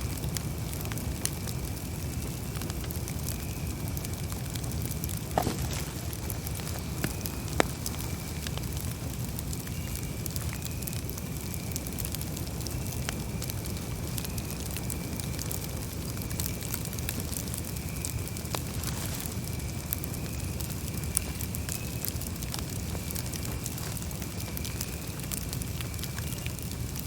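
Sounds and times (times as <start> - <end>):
wood crackling and popping: 0.0 - 27.0.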